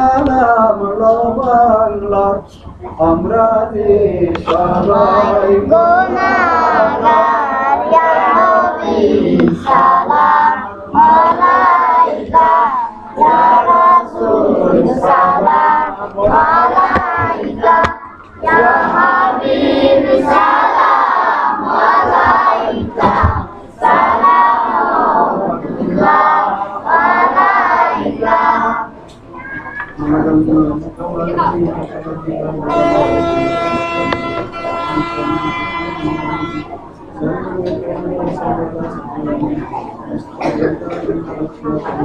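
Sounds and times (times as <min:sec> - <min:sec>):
children singing: 0:03.0 - 0:42.0.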